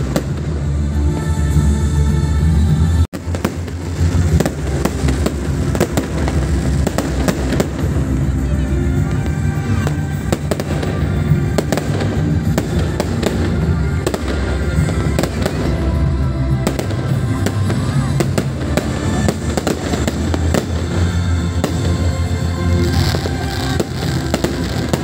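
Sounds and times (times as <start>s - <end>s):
fireworks bursting: 0.0s - 25.0s
music with heavy bass: 0.0s - 25.0s.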